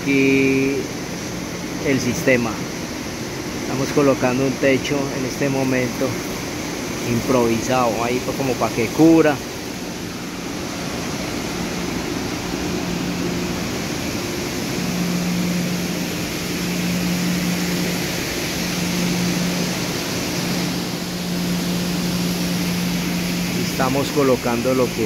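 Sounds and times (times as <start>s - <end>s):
industrial machinery hum: 0.0s - 25.0s.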